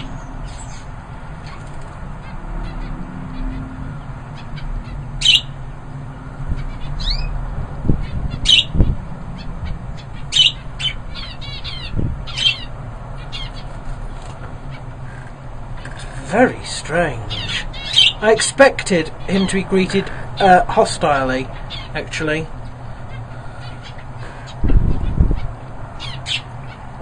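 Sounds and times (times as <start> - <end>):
birds squawking: 0.0 - 27.0.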